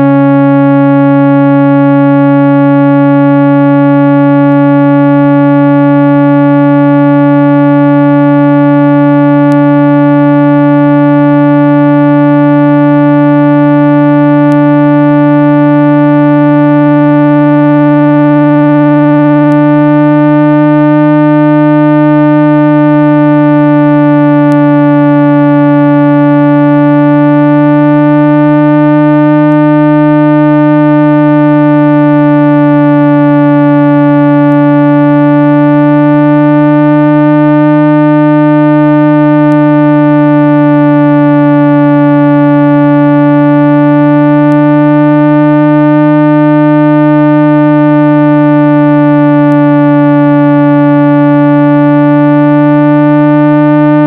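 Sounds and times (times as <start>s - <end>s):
low synthesized hum tone: 0.0s - 54.0s.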